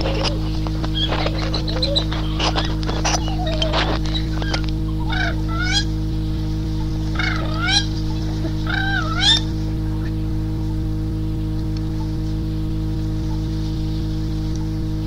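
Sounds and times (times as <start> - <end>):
bird-like calls: 0.0 - 15.0
steady electrical hum: 0.0 - 15.0.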